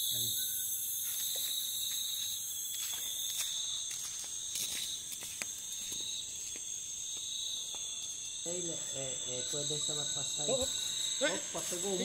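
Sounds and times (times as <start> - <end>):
insect chorus shrill tones: 0.0 - 12.0.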